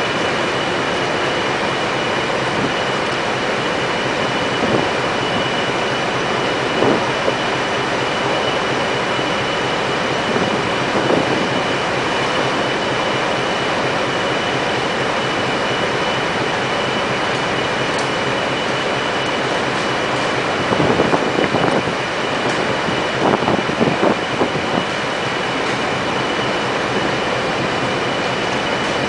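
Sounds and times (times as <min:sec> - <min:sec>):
heavy machinery running: 0:00.0 - 0:29.0
high mechanical whine: 0:00.0 - 0:29.0.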